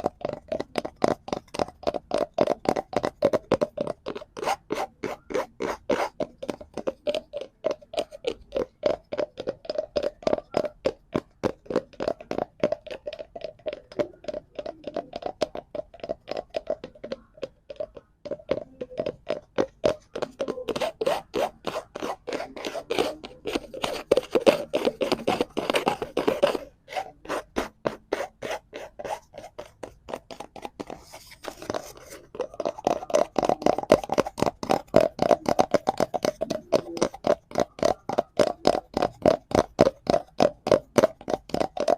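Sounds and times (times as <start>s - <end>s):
tapping and scratching on cardboard: 0.0s - 41.9s.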